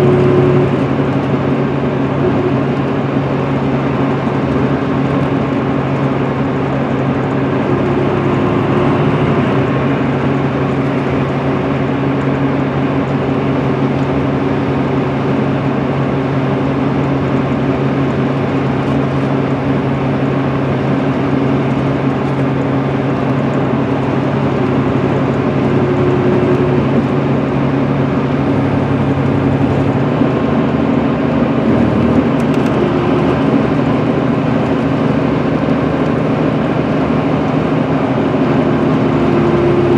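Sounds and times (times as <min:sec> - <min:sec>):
diesel engine drone: 0:00.0 - 0:39.9
tyre and road noise: 0:00.0 - 0:39.9.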